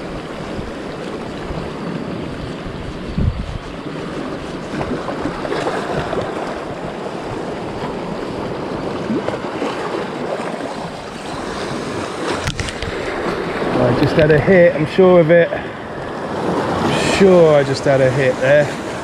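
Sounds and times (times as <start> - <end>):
sea washing over rocks: 0.0 - 19.0
wind buffeting microphone: 0.0 - 19.0.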